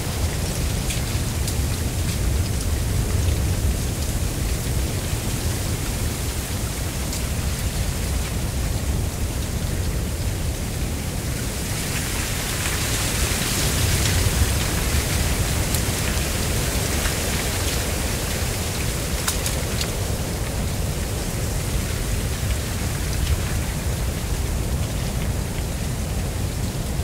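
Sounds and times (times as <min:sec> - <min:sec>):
wind rustling dry reeds: 0:00.0 - 0:27.0.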